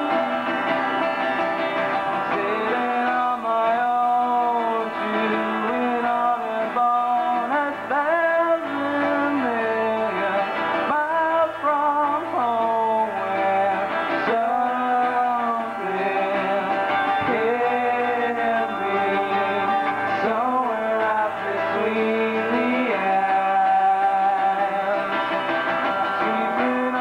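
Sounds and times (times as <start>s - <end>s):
man singing: 0.0s - 0.8s, 1.8s - 27.0s
rock band playing: 0.0s - 6.0s, 6.6s - 27.0s.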